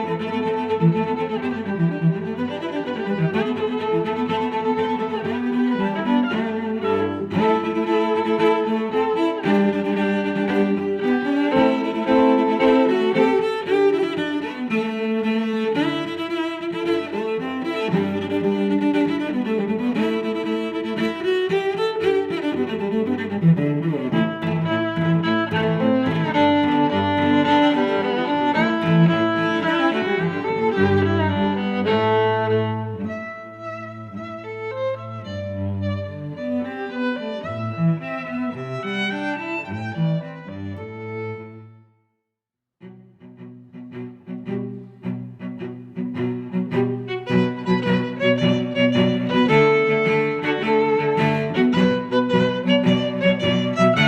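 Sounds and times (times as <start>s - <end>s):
bowed strings playing sustained notes: 0.0s - 41.8s, 42.8s - 54.0s.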